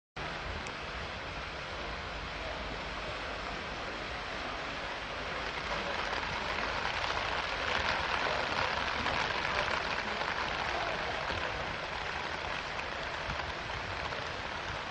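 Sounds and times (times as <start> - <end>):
floodwater rushing: 0.2 - 14.9
heavy rain: 0.2 - 14.9.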